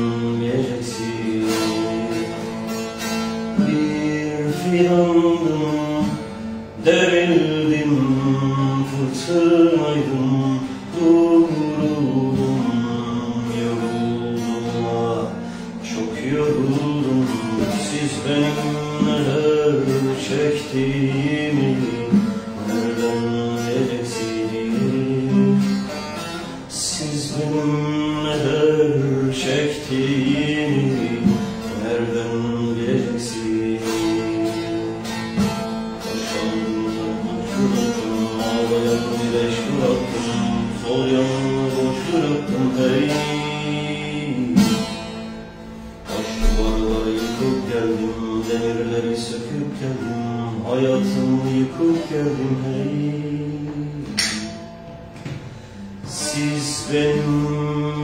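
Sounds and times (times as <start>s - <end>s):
long-necked lute strummed and plucked: 0.0s - 58.0s
man singing folk song: 0.0s - 58.0s.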